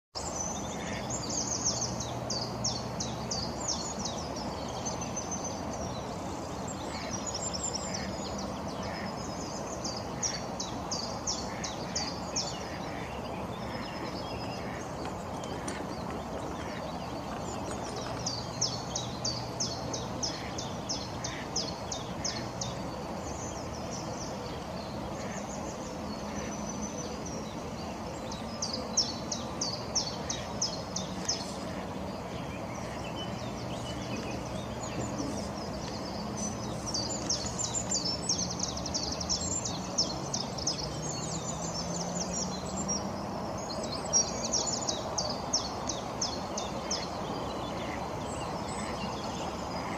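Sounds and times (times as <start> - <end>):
songbirds chirping: 0.2 - 49.9.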